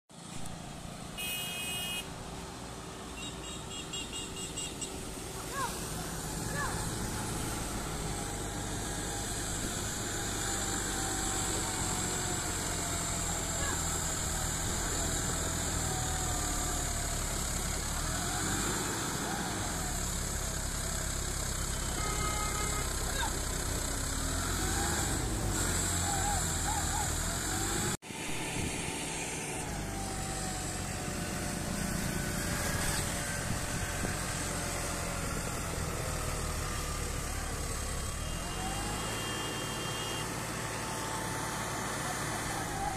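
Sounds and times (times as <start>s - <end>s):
tractor diesel engine under load: 4.9s - 42.9s.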